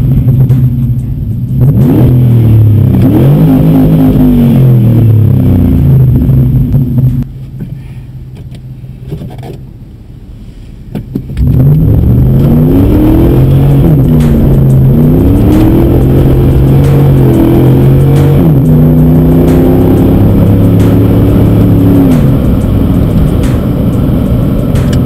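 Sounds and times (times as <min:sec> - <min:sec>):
truck exhaust under acceleration: 0:00.0 - 0:10.0, 0:10.8 - 0:25.0.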